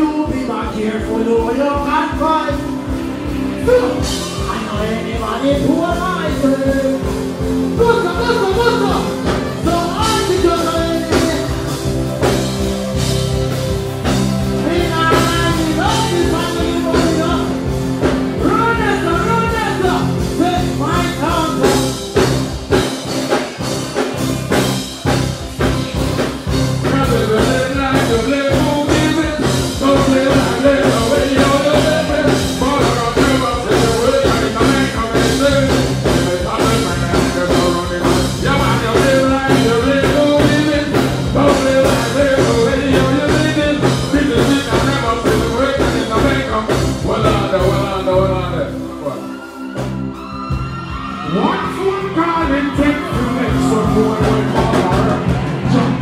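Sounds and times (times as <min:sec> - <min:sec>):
person singing: 0:00.0 - 0:23.0, 0:25.0 - 0:56.0
live band music: 0:00.0 - 0:56.0.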